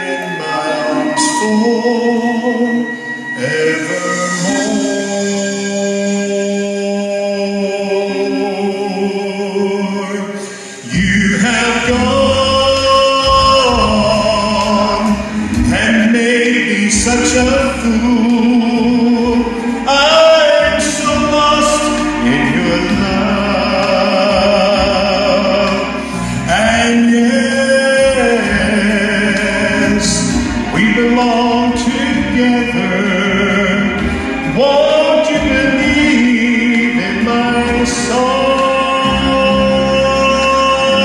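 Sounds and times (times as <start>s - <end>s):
man singing a ballad: 0.0s - 41.0s
musical accompaniment: 0.0s - 41.0s.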